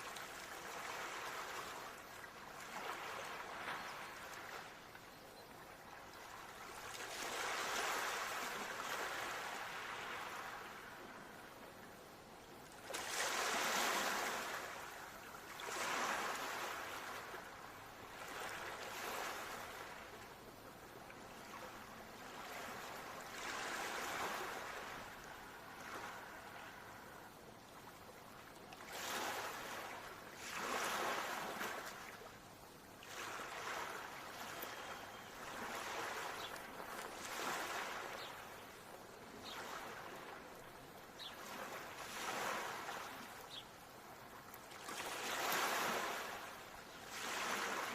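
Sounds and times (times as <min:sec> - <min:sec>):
ocean waves breaking on shore: 0:00.0 - 0:05.0, 0:05.6 - 0:11.9, 0:12.6 - 0:32.4, 0:33.0 - 0:47.9.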